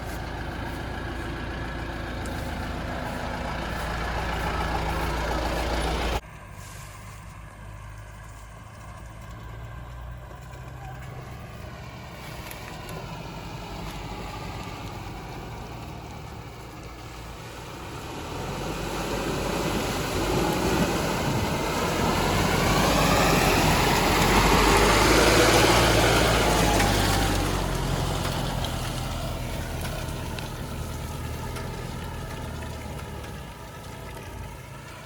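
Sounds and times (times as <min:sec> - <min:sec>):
vehicle engine driving past: 0:00.0 - 0:35.0.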